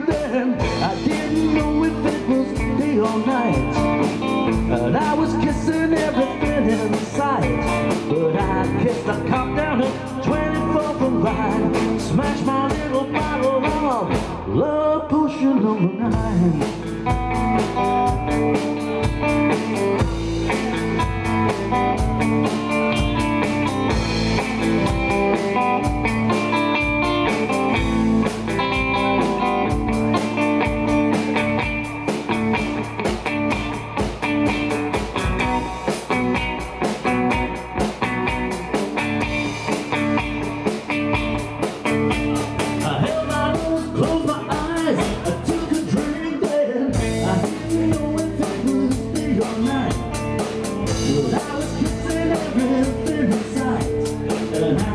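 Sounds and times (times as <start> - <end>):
drum kit beat: 0.0 - 14.6, 16.1 - 54.9
electric guitar lead: 0.0 - 54.9.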